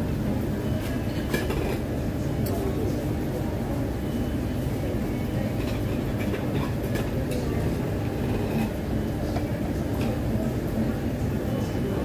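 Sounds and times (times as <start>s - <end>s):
low restaurant rumble: 0.0s - 12.0s.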